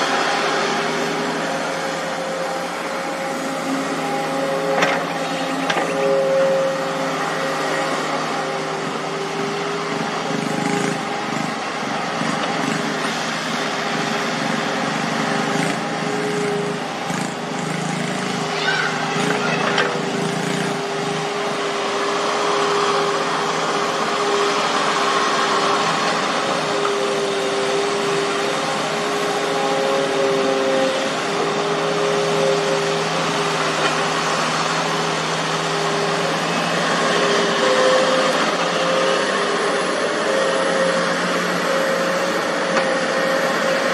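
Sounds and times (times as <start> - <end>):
excavator diesel engines running: 0.0 - 43.9.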